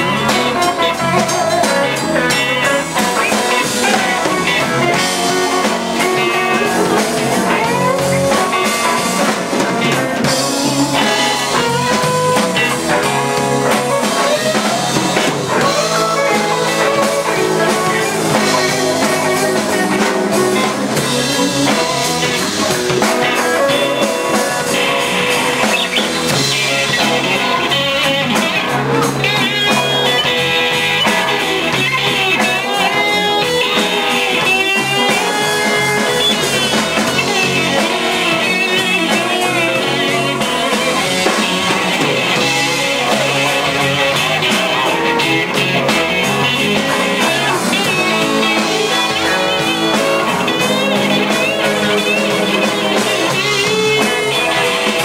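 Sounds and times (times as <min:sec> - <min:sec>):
bass guitar: 0:00.0 - 0:55.0
drums: 0:00.0 - 0:55.0
electric guitars: 0:00.0 - 0:55.0
high wavering lead guitar line: 0:00.0 - 0:55.0.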